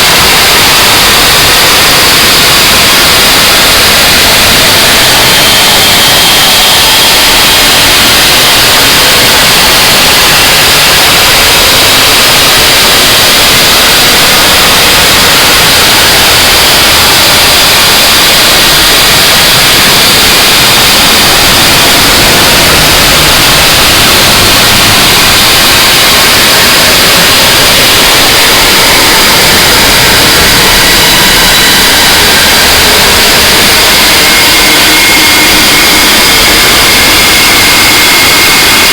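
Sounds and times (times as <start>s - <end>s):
harsh noise wall music: 0.0s - 38.9s.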